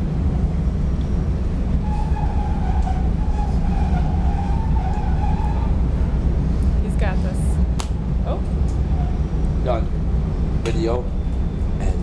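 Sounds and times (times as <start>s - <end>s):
train car rumbling: 0.0s - 12.0s.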